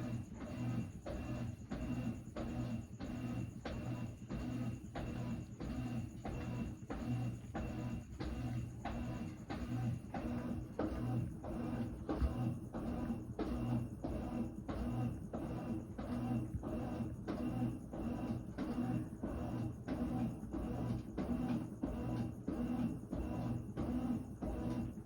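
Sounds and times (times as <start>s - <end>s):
washing machine churning: 0.0s - 25.0s.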